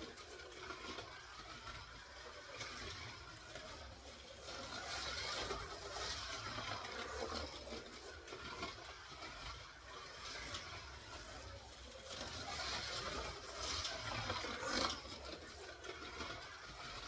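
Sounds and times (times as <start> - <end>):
slot car motor whirring: 0.0 - 17.0.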